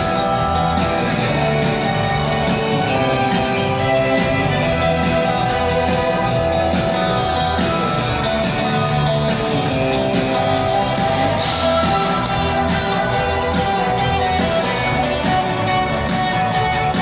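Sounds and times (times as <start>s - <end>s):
electric guitar: 0.0s - 17.0s
steady drum beat: 0.0s - 17.0s.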